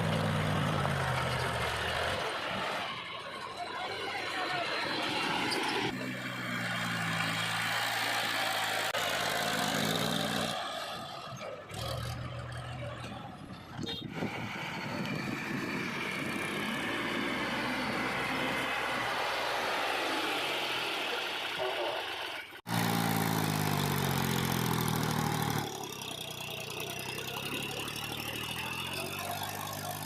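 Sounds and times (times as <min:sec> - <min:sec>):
diesel engines running: 0:00.0 - 0:30.0.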